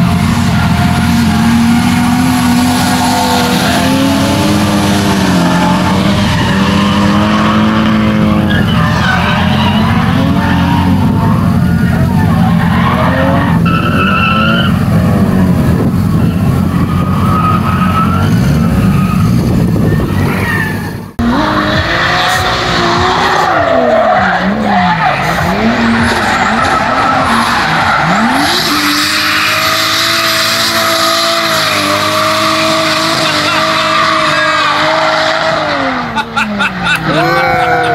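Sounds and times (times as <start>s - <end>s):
car engine revving: 0.0s - 37.9s
tyres skidding: 0.0s - 37.9s.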